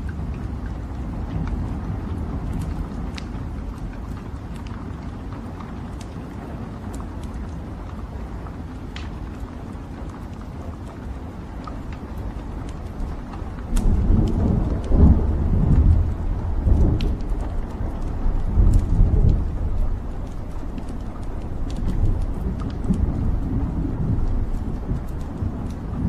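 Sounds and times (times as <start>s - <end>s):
burning logs crackling and popping: 0.0s - 26.0s
fire rumbling in fireplace: 0.0s - 26.0s.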